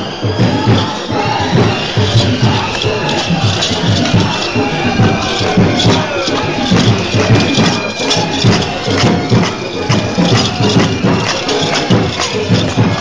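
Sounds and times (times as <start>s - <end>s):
jingling rattles: 0.1s - 13.0s.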